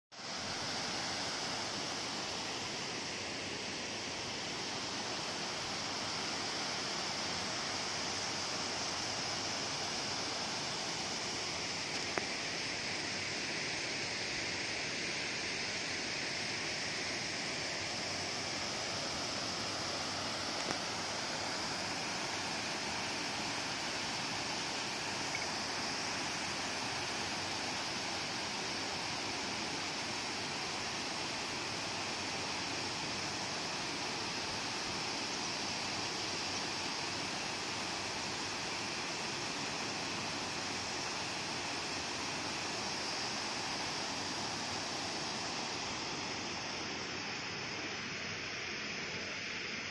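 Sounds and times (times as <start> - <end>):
water rushing over spillway: 0.2 - 49.9.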